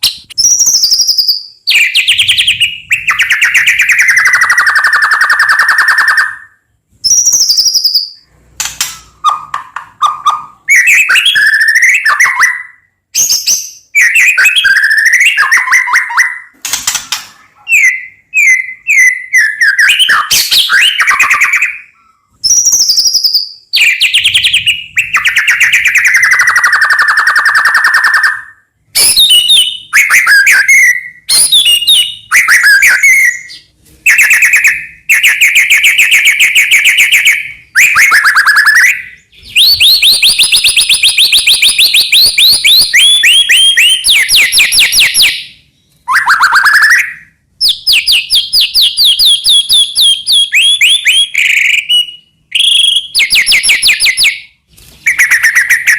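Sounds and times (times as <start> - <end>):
bird singing whistles and trills: 0.0 - 55.9.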